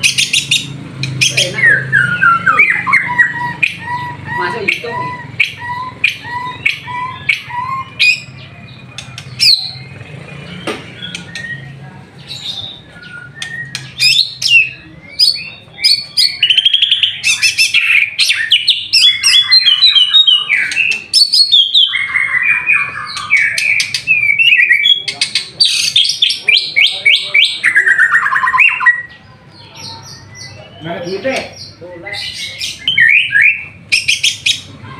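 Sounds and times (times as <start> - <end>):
songbird singing trilled phrases: 0.0 - 34.9.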